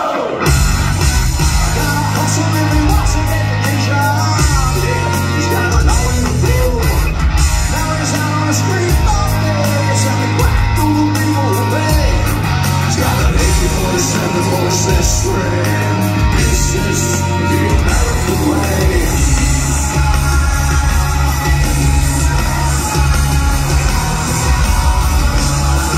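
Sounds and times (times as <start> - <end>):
hard rock band playing: 0.0 - 25.9
man singing: 1.5 - 25.9.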